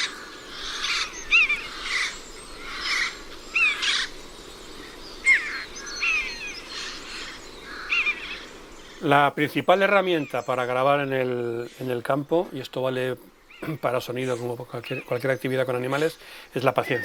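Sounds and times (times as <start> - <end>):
birds chirping and whistling: 0.0 - 17.0
raspy bird calls: 0.0 - 17.0.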